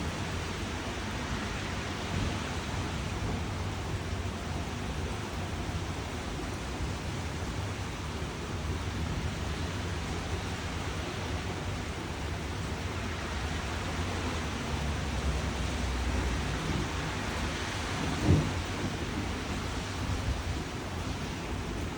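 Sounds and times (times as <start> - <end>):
rain hissing: 0.0 - 21.9.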